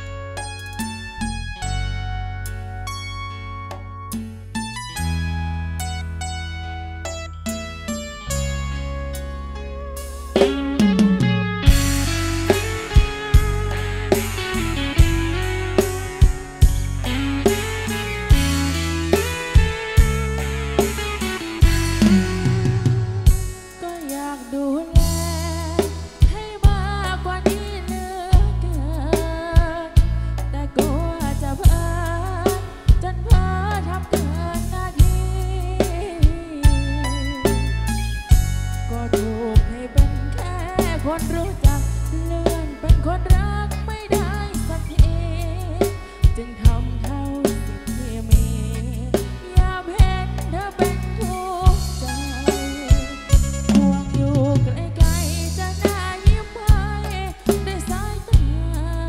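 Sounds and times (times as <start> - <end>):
band playing through pa: 0.0 - 59.0
electric bass: 0.0 - 59.0
woman singing into microphone: 10.5 - 59.0.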